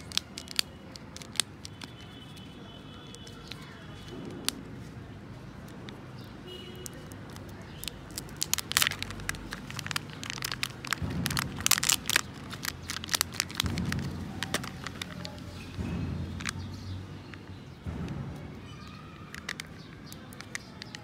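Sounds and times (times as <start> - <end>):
thin plastic crackling and crinkling: 0.0 - 17.5, 19.0 - 21.0
sharp plastic clicks: 0.0 - 21.0.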